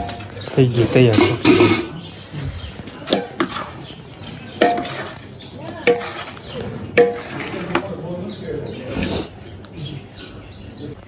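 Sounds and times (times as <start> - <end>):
spoon stirring food in pot: 0.0 - 11.0.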